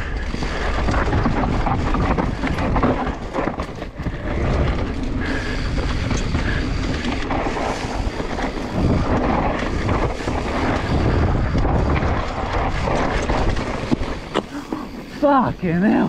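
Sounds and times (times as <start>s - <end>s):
bike tyres skidding on dirt: 0.0s - 15.3s
bike rattling: 0.0s - 16.0s
wind on microphone: 0.0s - 16.0s.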